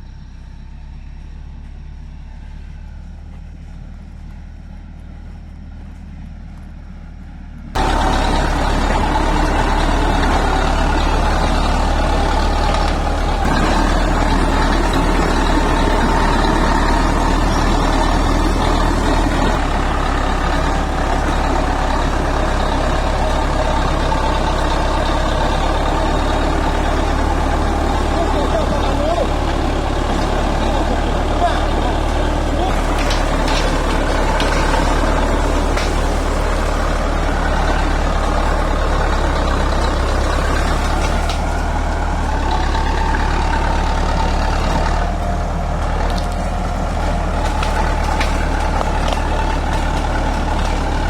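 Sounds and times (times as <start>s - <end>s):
diesel engine of heavy machinery: 0.0s - 51.0s.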